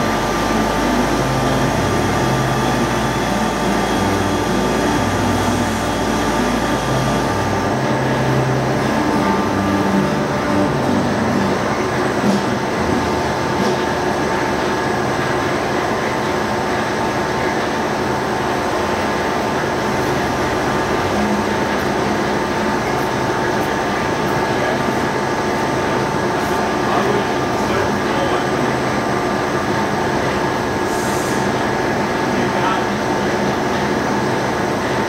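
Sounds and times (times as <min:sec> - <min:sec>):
forklift engine: 0:00.0 - 0:35.0
machinery drone with whining tones: 0:00.0 - 0:35.0.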